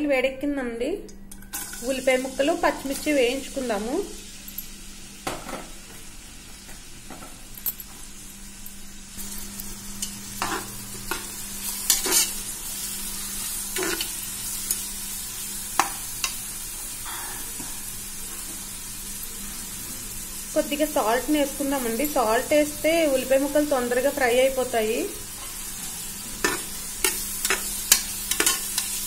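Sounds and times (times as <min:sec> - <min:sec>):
onions sizzling in hot oil: 0:01.5 - 0:29.0.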